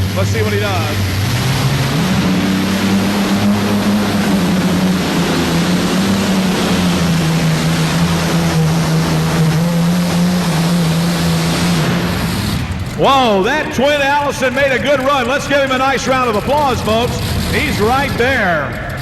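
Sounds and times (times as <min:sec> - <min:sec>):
aircraft engines droning under load: 0:00.0 - 0:19.0.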